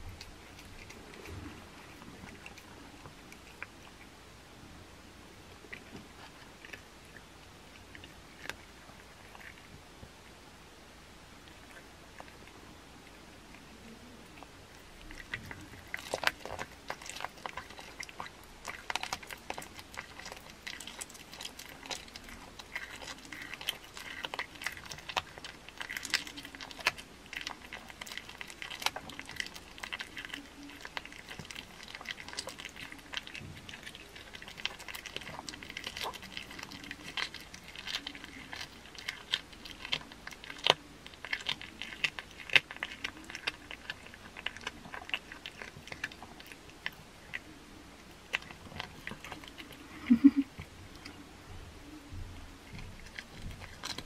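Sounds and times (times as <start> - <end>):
cat crunching raw meat: 0.0 - 4.5, 5.2 - 51.2, 51.8 - 54.0.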